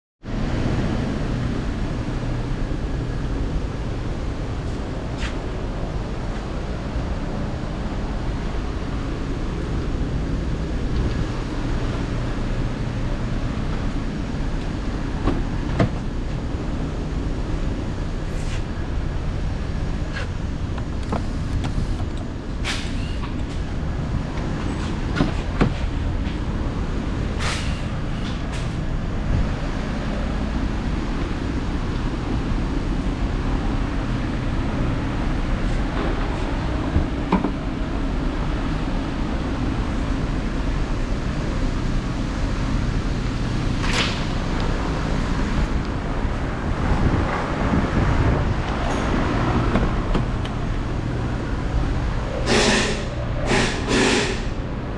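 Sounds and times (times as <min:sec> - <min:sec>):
car engine idling: 0:00.8 - 0:46.8.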